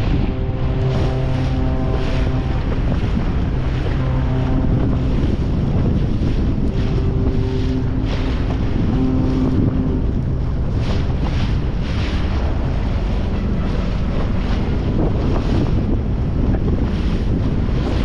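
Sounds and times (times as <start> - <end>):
water splashing against hull: 0.0 - 18.0
wind buffeting microphone: 0.0 - 18.0.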